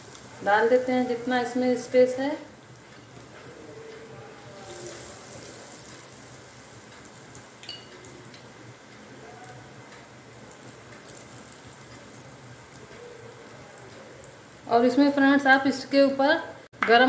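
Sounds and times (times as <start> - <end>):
oil sizzling and bubbling: 0.0 - 16.8.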